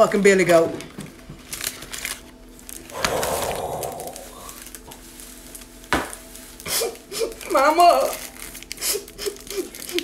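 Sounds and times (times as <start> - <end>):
snack packet crinkling: 1.4 - 10.0.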